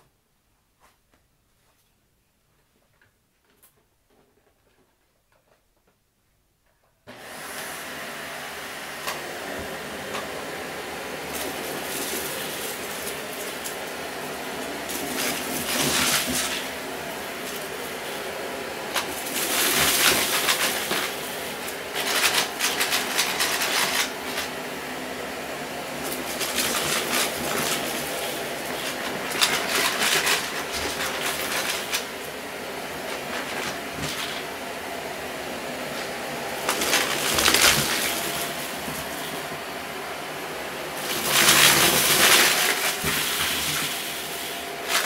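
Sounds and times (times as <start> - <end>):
vacuum cleaner running on carpet: 7.1 - 45.0.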